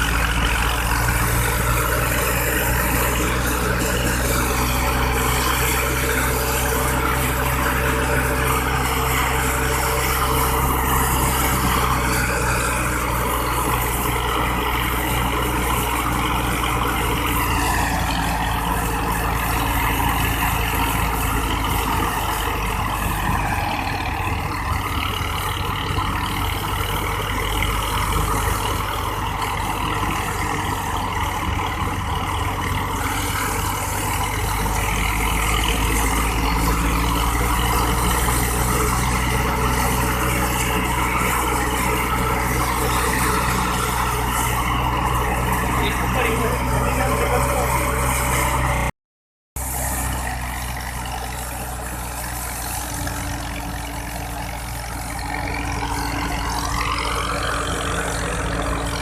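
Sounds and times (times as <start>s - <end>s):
thresher engine running: 0.0s - 48.9s, 49.6s - 59.0s.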